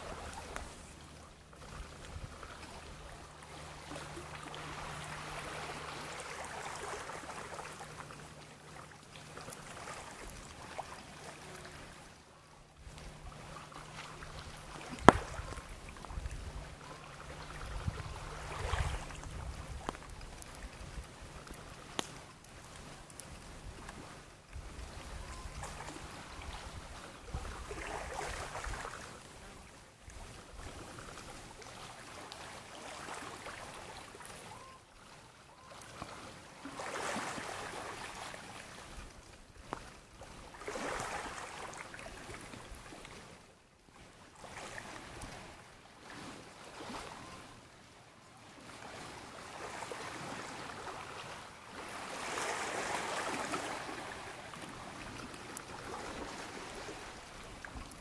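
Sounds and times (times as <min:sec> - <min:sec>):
lake waves washing onto shore: 0:00.0 - 0:58.0.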